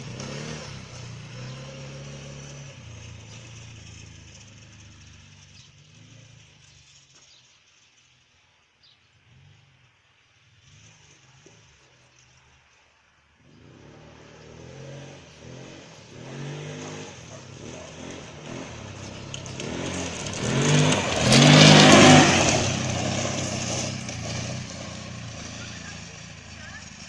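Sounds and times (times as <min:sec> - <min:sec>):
engine revving in throttle surges: 0:00.0 - 0:07.1, 0:10.5 - 0:12.4, 0:13.4 - 0:27.0.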